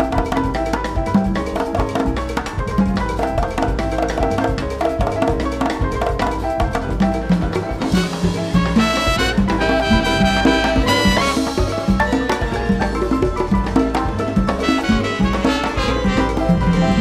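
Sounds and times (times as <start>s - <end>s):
congas: 0.0s - 17.0s
latin ensemble groove: 0.0s - 17.0s
pulsing bass line: 0.0s - 17.0s.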